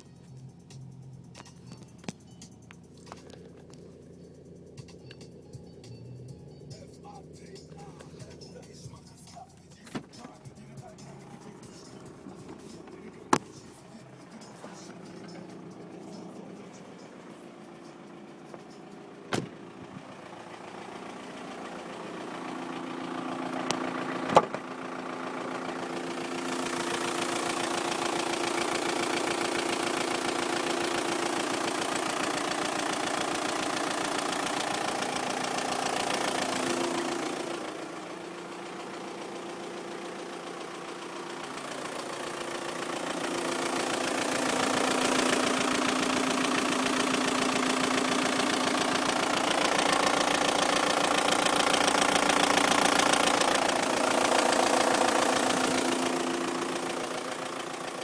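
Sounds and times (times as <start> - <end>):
diesel engine idling with rattle: 0.0 - 58.0.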